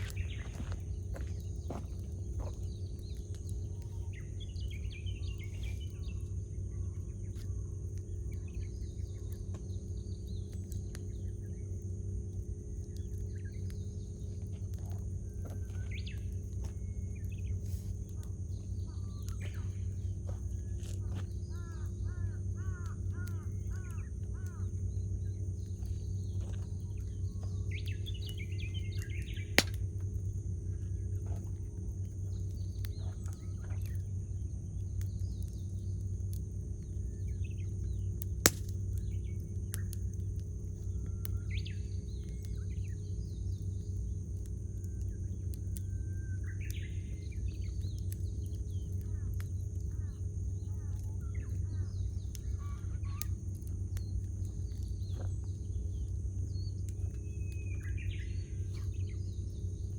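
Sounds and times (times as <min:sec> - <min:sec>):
birds chirping: 0:00.0 - 0:11.8, 0:12.8 - 0:44.4, 0:45.0 - 0:59.9
campfire crackling and popping: 0:00.0 - 0:59.9
low rumble: 0:00.0 - 0:59.9.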